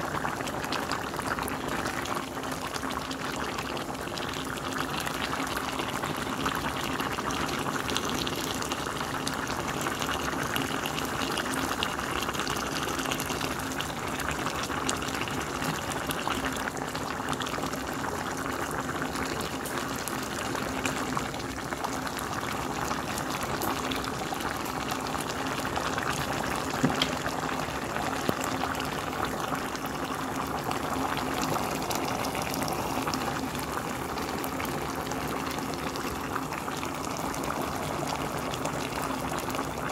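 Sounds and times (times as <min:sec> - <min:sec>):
pot boiling and bubbling: 0:00.0 - 0:39.9.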